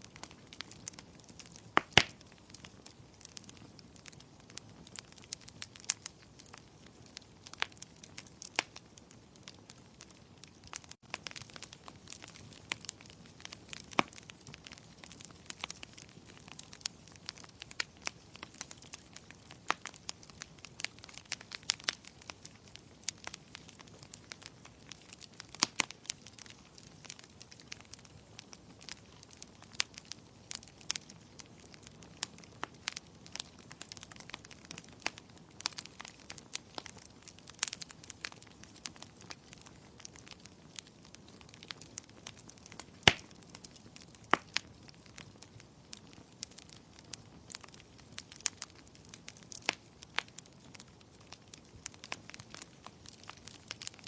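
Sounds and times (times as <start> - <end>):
low rush of flames: 0.0 - 54.0
wood fire pops and crackles: 0.0 - 54.0.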